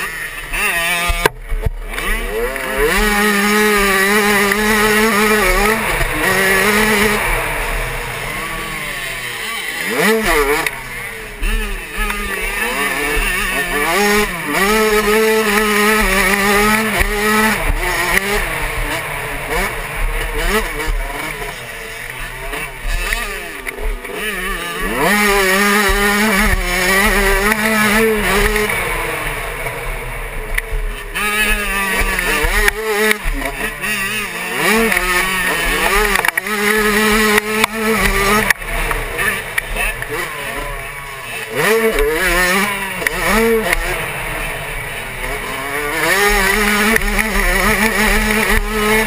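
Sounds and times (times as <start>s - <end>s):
motocross engine revving: 0.0s - 49.0s.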